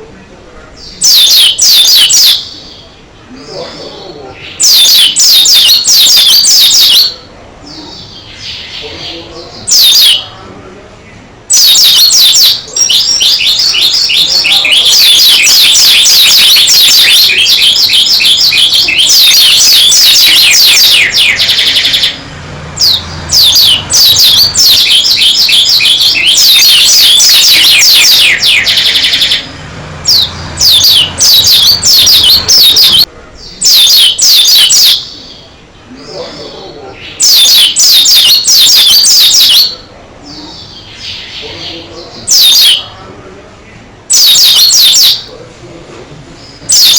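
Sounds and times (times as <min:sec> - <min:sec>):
bird chattering song: 0:00.6 - 0:43.0, 0:43.7 - 0:45.3.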